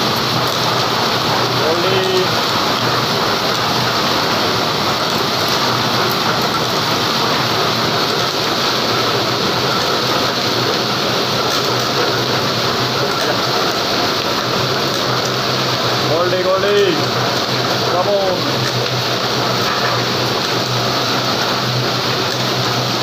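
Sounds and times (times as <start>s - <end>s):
treadmill belt running: 0.0s - 23.0s.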